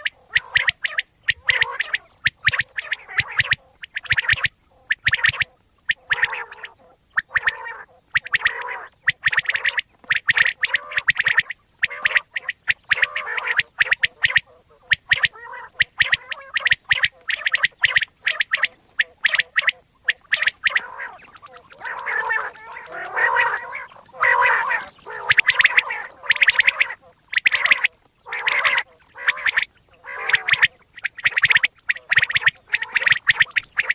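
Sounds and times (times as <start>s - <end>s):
quail calling: 0.0s - 33.9s.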